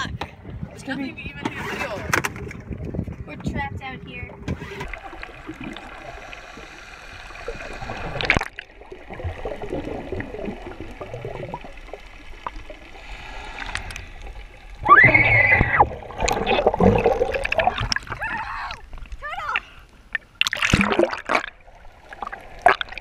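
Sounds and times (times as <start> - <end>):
water splashing and churning: 0.0 - 23.0
underwater gurgling: 3.8 - 23.0.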